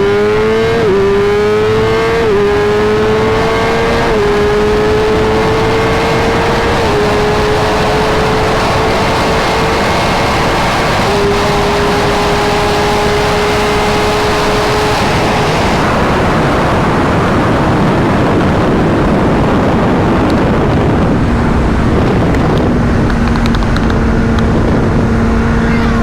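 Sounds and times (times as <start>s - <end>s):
motorcycle engine: 0.0s - 26.0s
wind rush over microphone: 0.0s - 26.0s.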